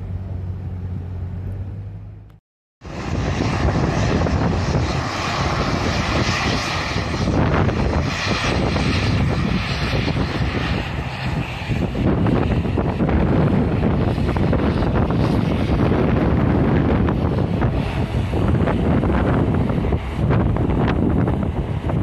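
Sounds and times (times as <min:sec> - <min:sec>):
jet engines running: 0:00.0 - 0:22.0
wind buffeting microphone: 0:02.8 - 0:22.0.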